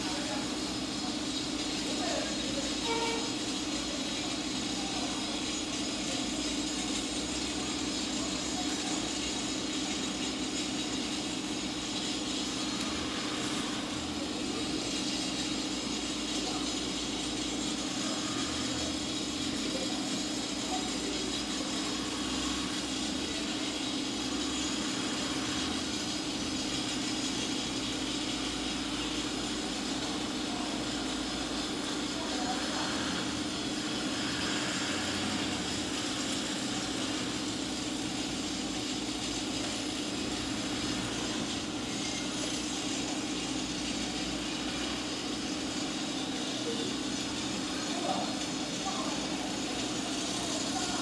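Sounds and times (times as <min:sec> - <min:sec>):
even hiss: 0:00.0 - 0:51.0
steady background hum: 0:00.0 - 0:51.0.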